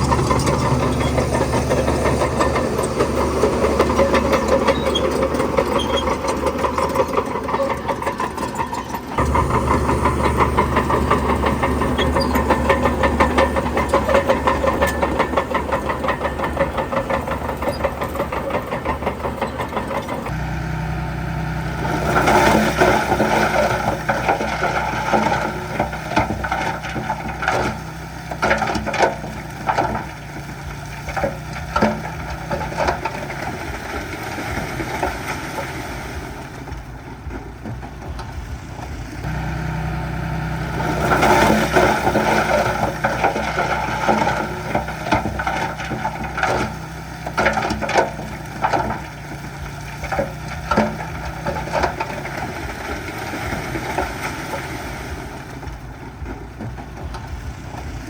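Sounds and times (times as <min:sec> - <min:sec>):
bulldozer engine under load: 0:00.0 - 0:58.0.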